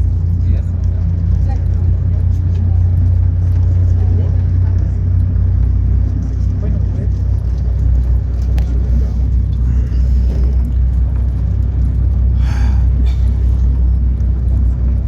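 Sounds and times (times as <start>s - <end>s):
cable car cabin rumble: 0.0s - 15.0s.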